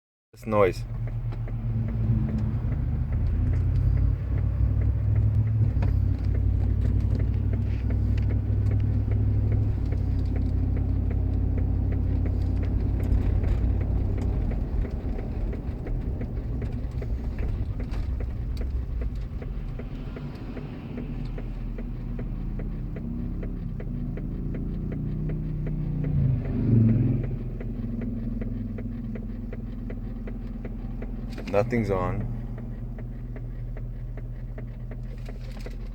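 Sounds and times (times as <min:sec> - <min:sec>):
engine and road rumble: 0:00.4 - 0:35.9.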